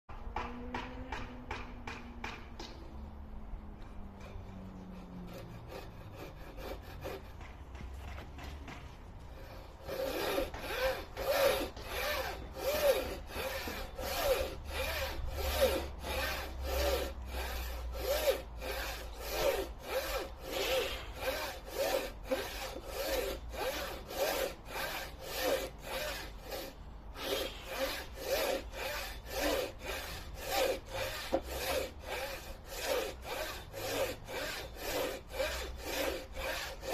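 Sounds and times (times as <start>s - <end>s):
saw rasping through wood: 0.4s - 3.0s, 3.8s - 36.9s.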